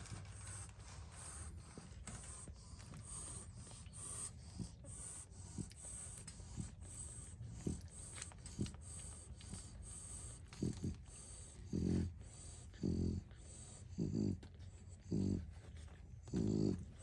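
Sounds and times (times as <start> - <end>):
puppies suckling and squeaking: 0.0 - 17.0.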